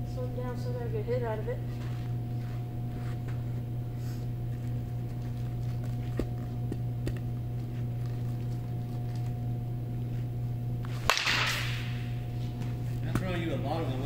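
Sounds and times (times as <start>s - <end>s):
indoor low hum: 0.0s - 14.0s.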